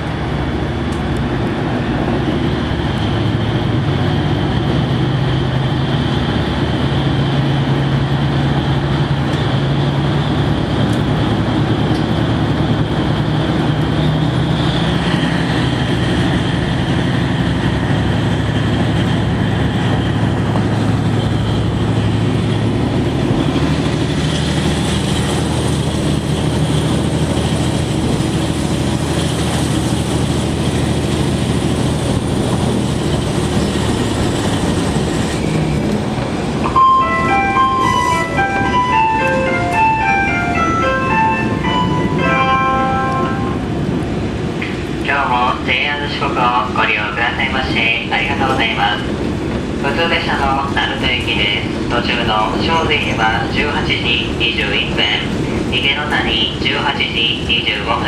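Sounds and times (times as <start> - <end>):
railcar diesel engine drone: 0.0 - 58.0.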